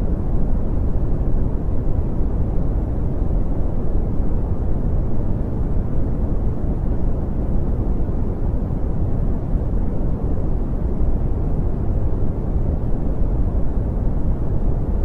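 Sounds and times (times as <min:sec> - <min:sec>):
deep rumbling brown noise: 0:00.0 - 0:15.0.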